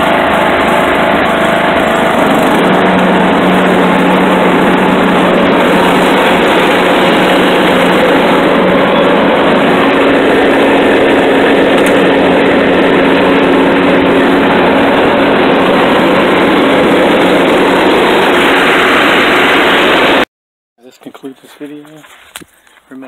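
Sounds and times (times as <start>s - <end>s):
riding lawnmower engine running: 0.0s - 20.2s.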